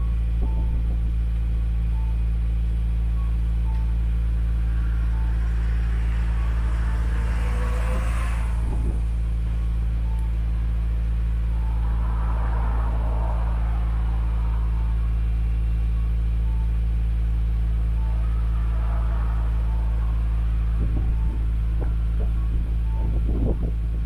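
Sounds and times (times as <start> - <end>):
car exhaust idling: 0.0 - 24.0.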